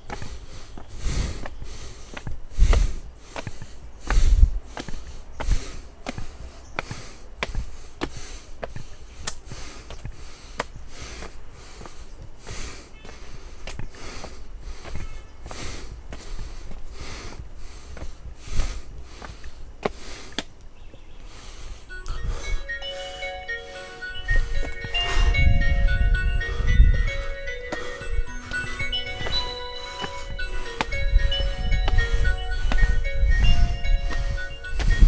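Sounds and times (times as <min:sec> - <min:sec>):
person breathing hard: 0:00.0 - 0:20.5, 0:21.2 - 0:35.0.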